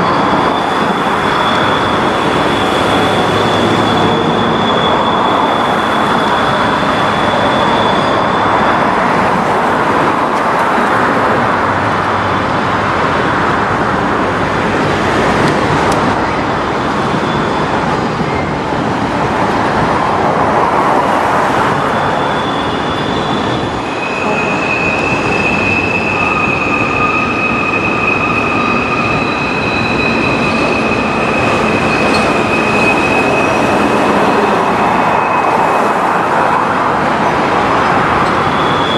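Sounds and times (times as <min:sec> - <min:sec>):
high-pitched wheel squeals: 0:00.0 - 0:13.8, 0:14.4 - 0:38.9
train wheels rumbling on rail: 0:00.0 - 0:38.9.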